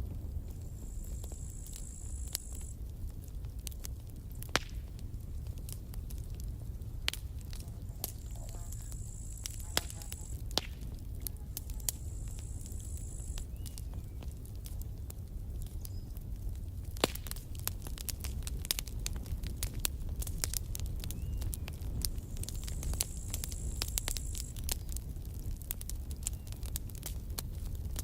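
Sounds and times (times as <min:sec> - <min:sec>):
campfire flames rumbling: 0:00.0 - 0:28.0
wood popping and crackling: 0:00.0 - 0:28.0.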